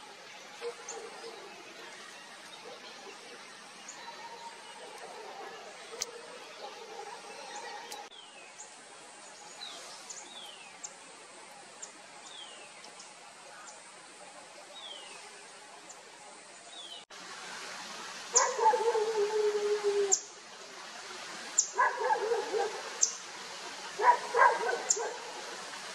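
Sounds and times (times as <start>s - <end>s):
forest background hiss: 0.0s - 25.9s.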